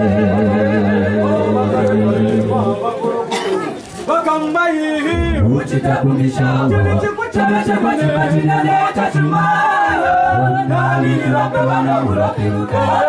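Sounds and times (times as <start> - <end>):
vocal group singing in harmony: 0.0 - 3.8, 5.1 - 13.0.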